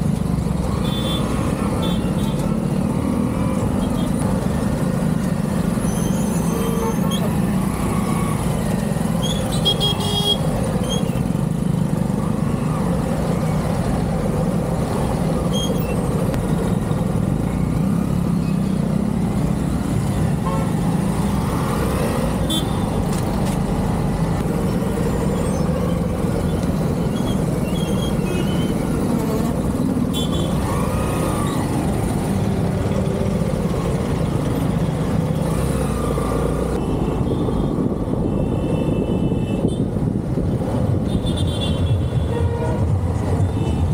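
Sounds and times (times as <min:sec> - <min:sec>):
motorcycle road and engine noise: 0:00.0 - 0:43.9.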